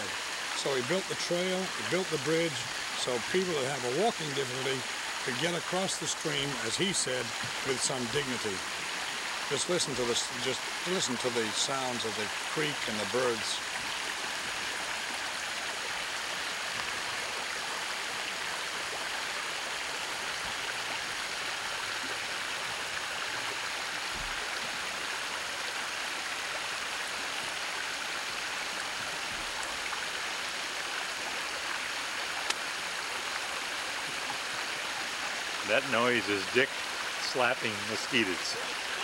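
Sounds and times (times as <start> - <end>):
creek rushing over rocks: 0.0 - 39.0.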